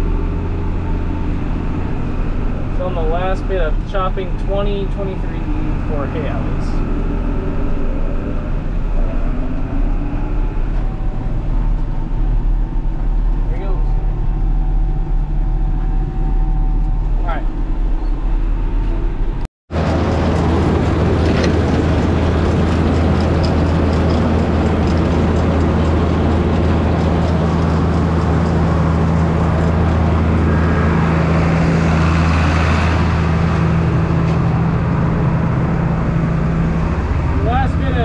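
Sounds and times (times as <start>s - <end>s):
broad rushing noise: 0.0s - 38.0s
diesel engine drone: 0.0s - 38.0s.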